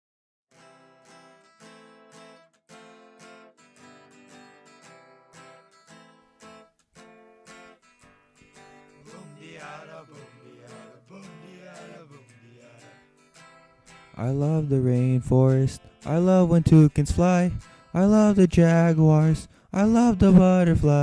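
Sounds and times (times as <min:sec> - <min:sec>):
acoustic guitar strumming: 0:00.5 - 0:21.0.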